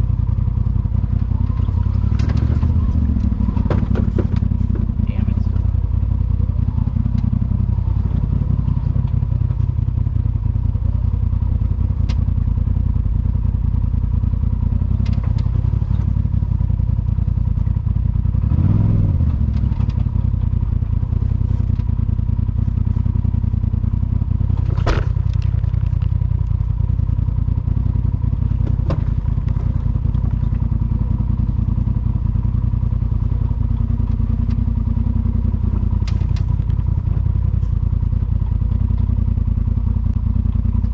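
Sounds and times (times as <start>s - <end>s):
vehicle clattering over rough ground: 0.0s - 40.9s
vehicle engine drone: 0.0s - 40.9s.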